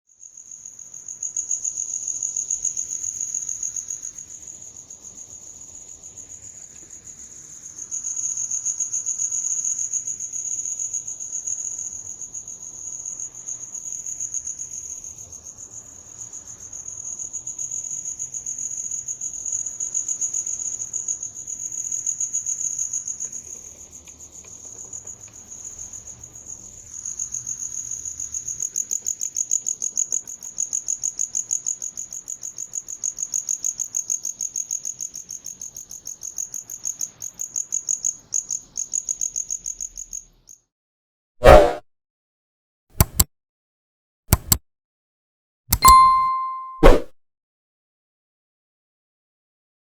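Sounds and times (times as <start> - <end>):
cricket chirping trill: 0.2 - 40.6.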